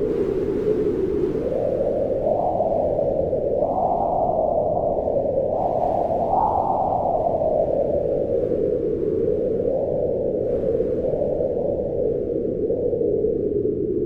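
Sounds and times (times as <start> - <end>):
wind blowing in gusts: 0.0 - 14.0.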